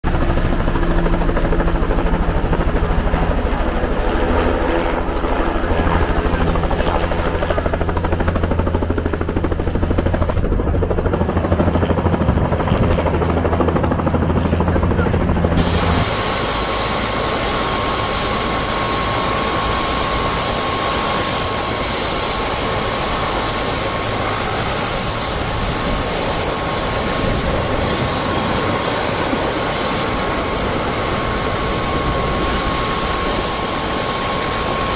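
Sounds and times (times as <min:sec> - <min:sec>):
helicopter rotor beating: 0:00.0 - 0:34.9
high turbine whine: 0:00.1 - 0:34.9.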